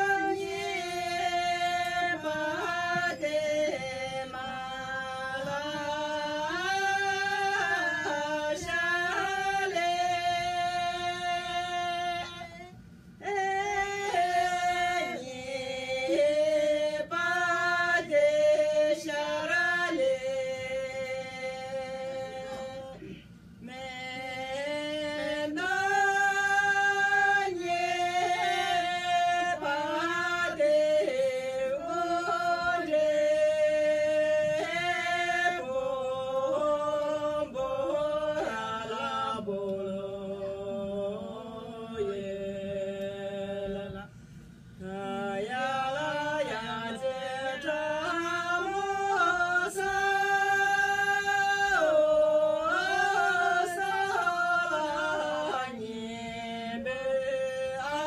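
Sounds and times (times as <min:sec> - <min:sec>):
women singing unaccompanied: 0:00.0 - 0:58.0.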